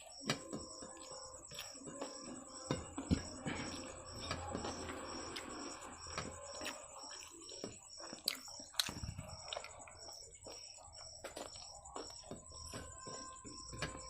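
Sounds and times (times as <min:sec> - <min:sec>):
person chewing and slurping noodles: 0:00.9 - 0:13.3.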